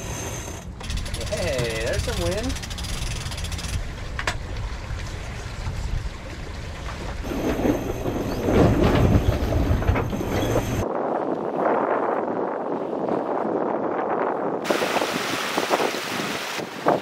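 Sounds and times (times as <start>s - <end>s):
wind buffeting microphone: 0.8s - 17.0s
water rushing past hull: 0.9s - 13.6s, 14.5s - 17.0s.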